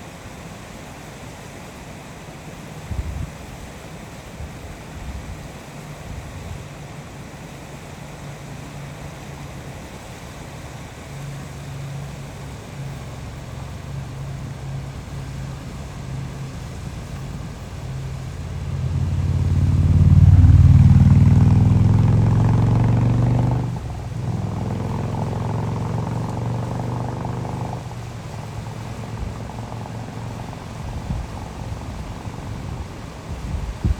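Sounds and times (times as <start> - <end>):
engine hum: 0.0 - 33.9.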